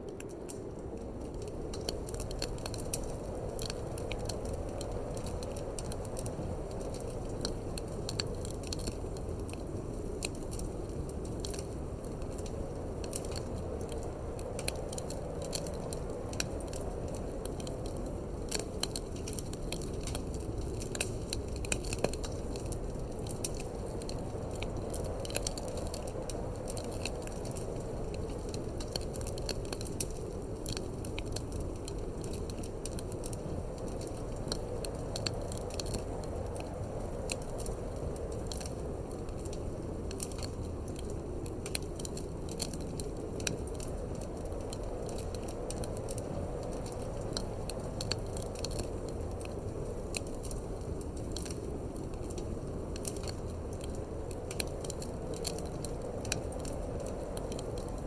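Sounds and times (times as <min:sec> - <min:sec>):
low rush of wind: 0:00.0 - 0:58.0
wood fire crackling: 0:00.0 - 0:58.0.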